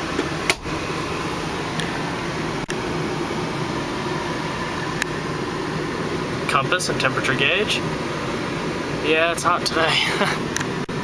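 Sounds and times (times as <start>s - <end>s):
air-conditioning blower rushing: 0.0s - 11.0s.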